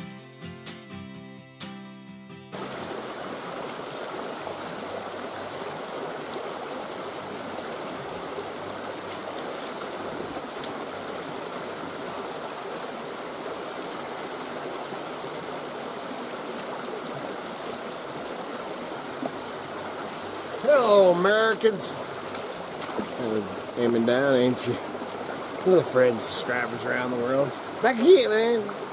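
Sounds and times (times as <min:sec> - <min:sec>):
creek rushing over rocks: 0:02.5 - 0:28.9.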